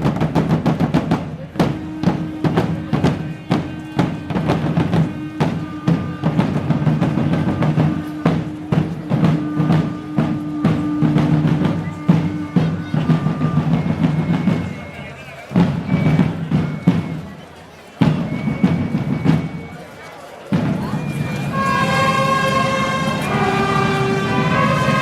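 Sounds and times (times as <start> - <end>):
drums beating fast: 0.0 - 17.4, 18.0 - 19.8, 20.5 - 25.0.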